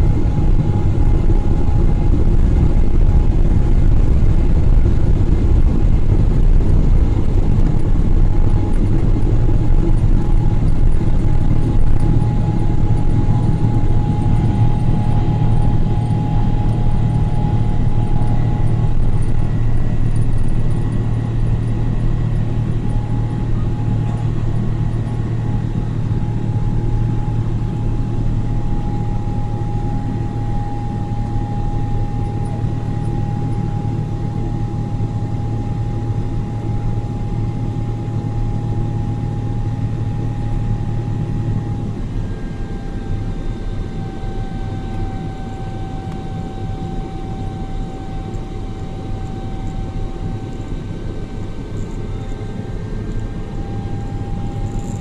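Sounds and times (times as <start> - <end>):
engine whine: 0.0 - 55.0
jet engine low roar: 0.0 - 55.0.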